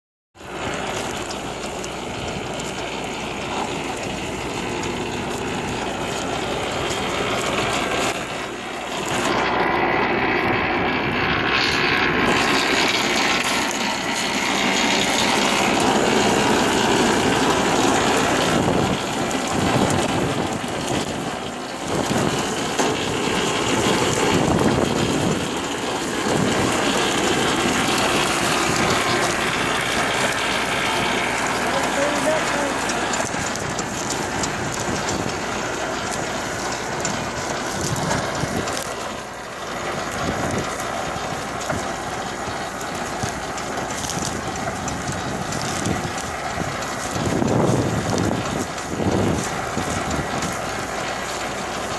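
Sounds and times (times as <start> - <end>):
potato harvester running: 0.4 - 51.9.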